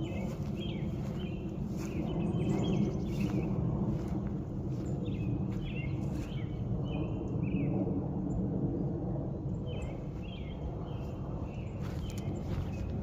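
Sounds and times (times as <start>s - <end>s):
birds chirping: 0.0s - 7.7s, 9.5s - 13.0s
steady low rumble: 0.0s - 13.0s.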